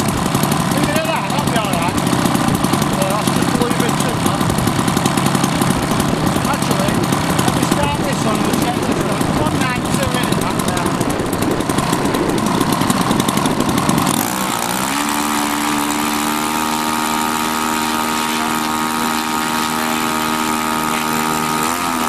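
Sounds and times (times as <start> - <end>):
model aircraft engines running: 0.0 - 22.0.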